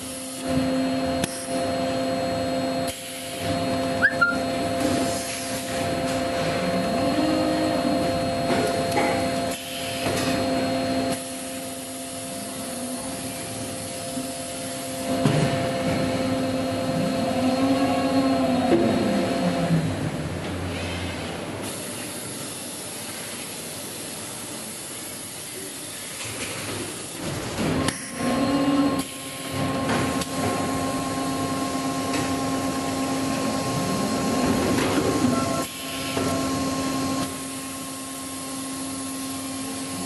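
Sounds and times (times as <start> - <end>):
printing machine humming: 0.0 - 20.7, 24.8 - 40.0.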